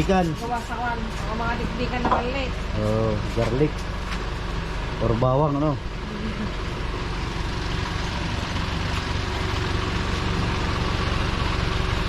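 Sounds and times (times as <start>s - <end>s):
road and wind noise: 0.0s - 12.0s
vehicle engine rumbling: 0.0s - 12.0s.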